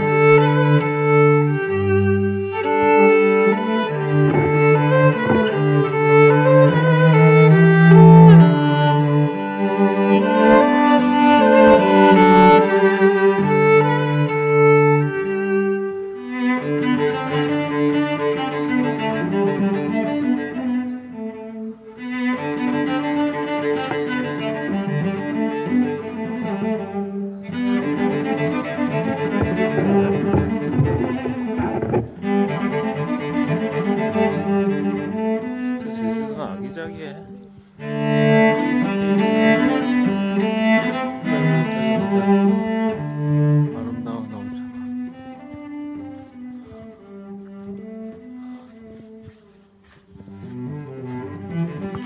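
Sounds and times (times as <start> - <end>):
bowed strings with cello: 0.0 - 52.0.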